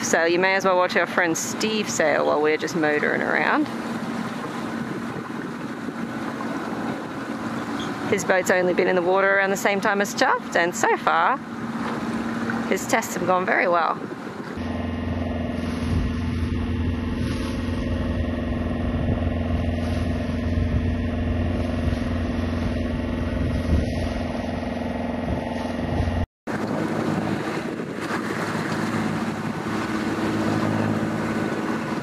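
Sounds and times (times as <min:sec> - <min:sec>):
boat engine humming: 0:00.0 - 0:32.0
water noise: 0:00.0 - 0:32.0
wind: 0:00.0 - 0:32.0.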